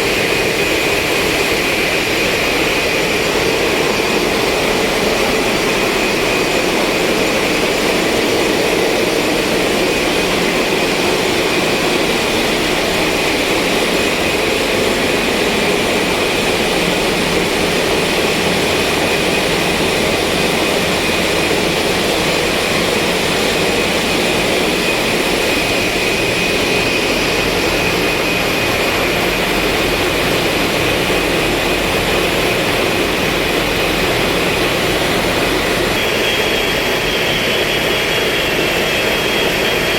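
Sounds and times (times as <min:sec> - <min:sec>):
high-pitched machinery whine: 0:00.0 - 0:39.9
ship diesel machinery droning: 0:00.0 - 0:39.9.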